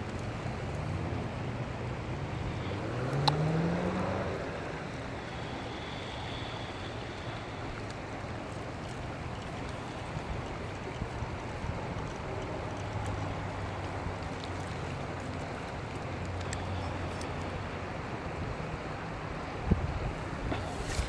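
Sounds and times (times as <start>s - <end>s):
river flowing over riffle: 0.0s - 21.0s.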